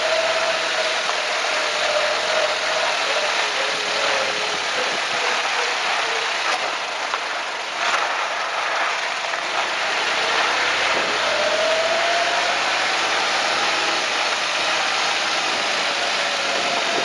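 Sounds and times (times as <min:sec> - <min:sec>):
road and engine noise: 0:00.0 - 0:17.0.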